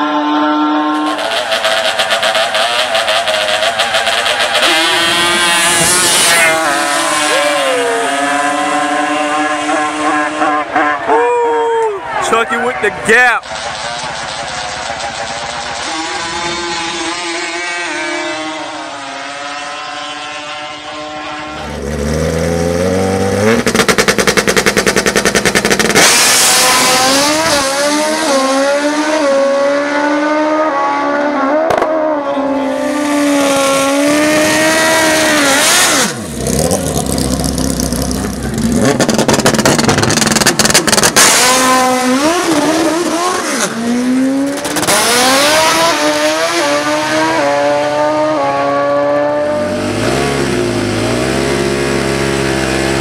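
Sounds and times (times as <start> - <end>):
atv engines revving: 0.0 - 53.0.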